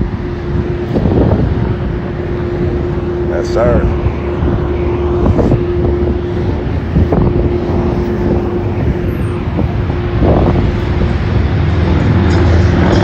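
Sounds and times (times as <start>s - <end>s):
cars driving by: 0.0s - 13.0s
steady hum: 0.0s - 13.0s
wind buffeting microphone: 0.0s - 13.0s.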